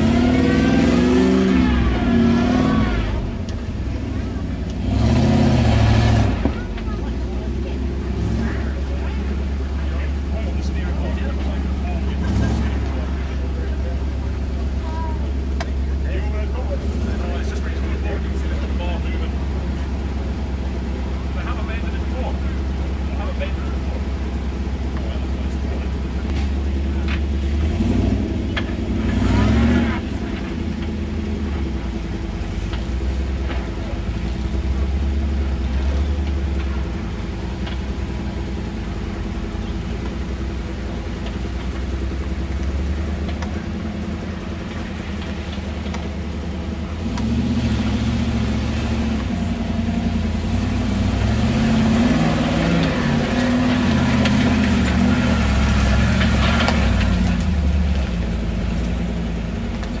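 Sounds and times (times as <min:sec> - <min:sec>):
off-road engine revving: 0:00.0 - 1:00.0.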